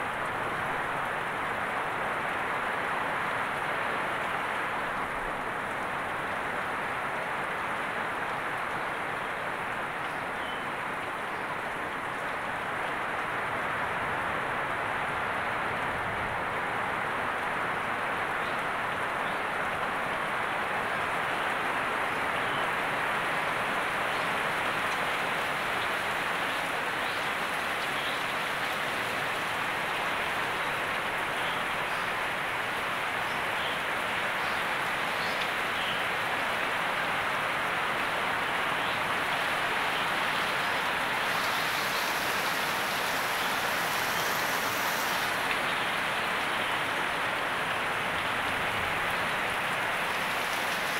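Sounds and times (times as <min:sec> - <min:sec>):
heavy rain on leaves: 0:00.0 - 0:50.9.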